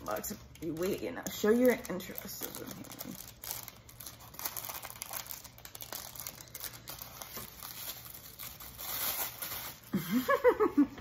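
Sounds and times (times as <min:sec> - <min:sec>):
packaging crinkling: 0:00.0 - 0:10.0
packaging tearing: 0:00.0 - 0:10.0.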